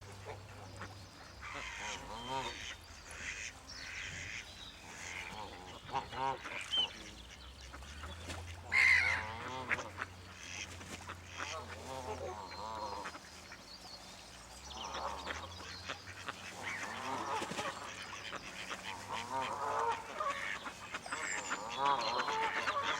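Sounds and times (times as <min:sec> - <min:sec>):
waterfowl quacking and honking: 0:00.1 - 0:14.1, 0:14.7 - 0:22.9.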